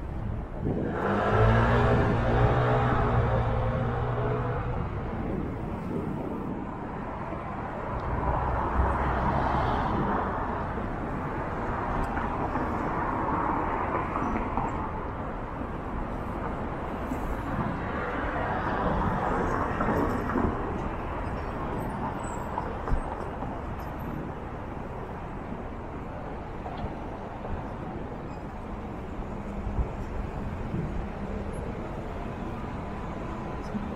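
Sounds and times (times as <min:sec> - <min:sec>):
cars passing: 0:00.0 - 0:33.9
steady traffic hum: 0:00.0 - 0:33.9.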